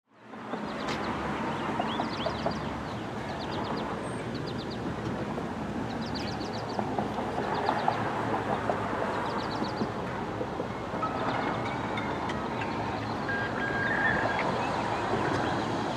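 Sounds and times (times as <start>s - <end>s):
low rumble of traffic: 0.1s - 15.9s.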